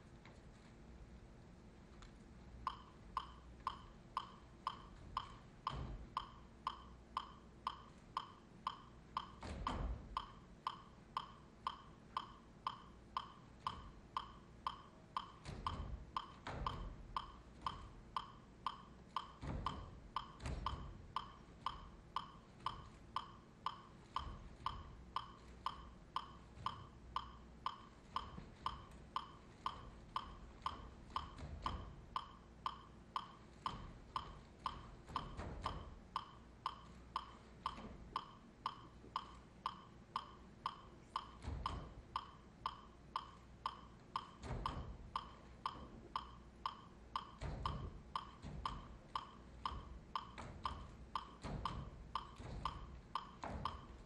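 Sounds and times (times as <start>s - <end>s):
metronome-like ticking: 2.6s - 54.0s.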